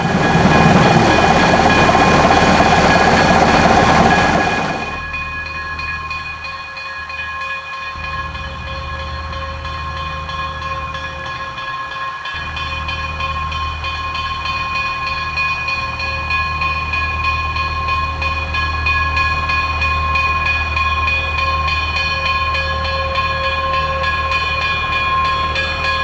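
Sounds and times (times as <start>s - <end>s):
rail car engine rumble: 0.0s - 26.0s
steady whine: 0.0s - 26.0s.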